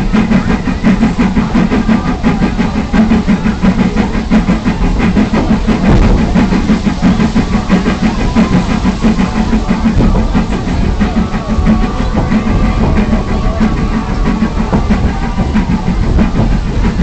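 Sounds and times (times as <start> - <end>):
engine running with uneven pulsing: 0.0 - 17.0.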